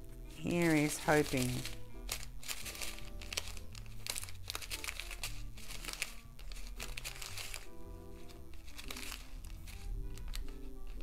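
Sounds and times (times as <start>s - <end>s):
plastic bag crinkling: 0.0s - 11.0s
soft background music: 0.0s - 11.0s.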